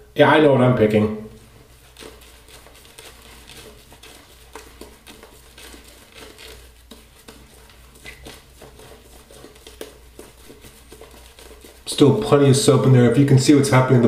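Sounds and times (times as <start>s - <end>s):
shaving brush scrubbing on skin: 1.4s - 14.0s.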